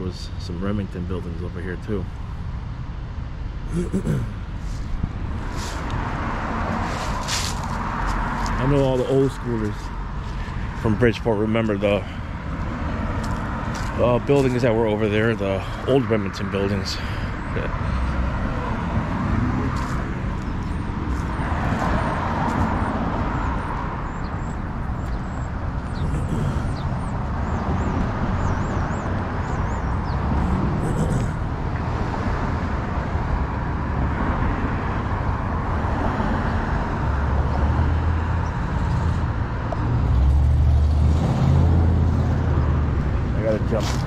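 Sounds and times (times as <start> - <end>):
cars passing: 0.0 - 44.0.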